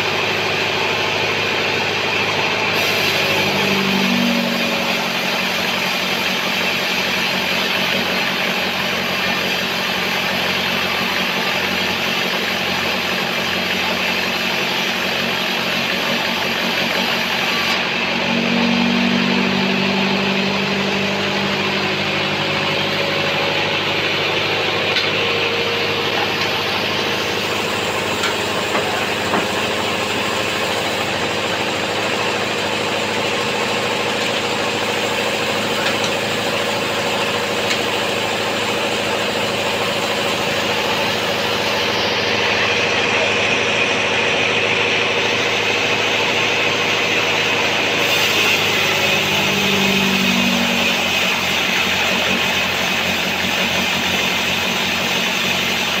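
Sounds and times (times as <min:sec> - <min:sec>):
bandsaw sawing log: 0:02.7 - 0:56.0.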